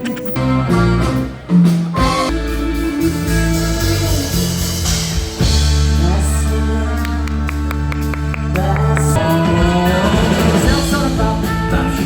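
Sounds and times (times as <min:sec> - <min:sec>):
song with singing guitar and bass: 0:00.0 - 0:12.0.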